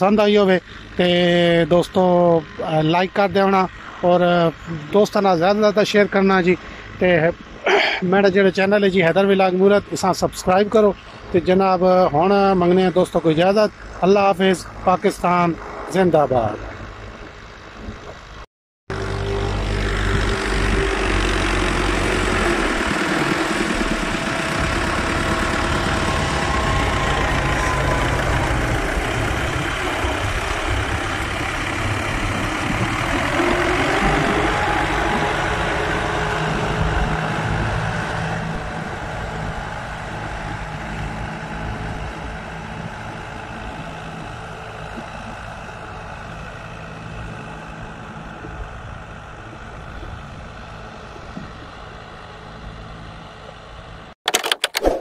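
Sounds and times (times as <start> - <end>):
tractor diesel engine under load: 0.0 - 54.7.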